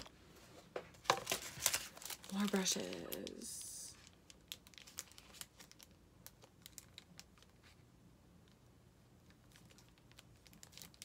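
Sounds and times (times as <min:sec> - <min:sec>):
plastic sleeves crinkling: 0:00.0 - 0:11.0.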